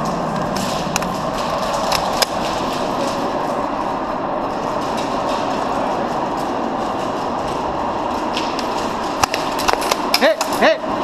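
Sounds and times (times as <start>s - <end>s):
noisy indoor din: 0.0s - 11.0s.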